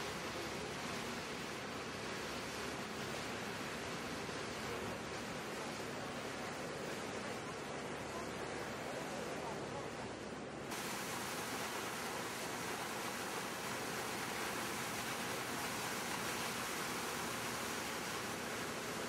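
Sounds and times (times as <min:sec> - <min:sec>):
foaming water rushing: 0:00.0 - 0:19.0.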